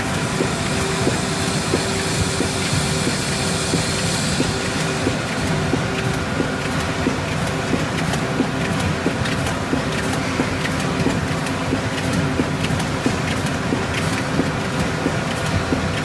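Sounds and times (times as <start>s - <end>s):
conveyor mechanical hum: 0.0s - 16.0s.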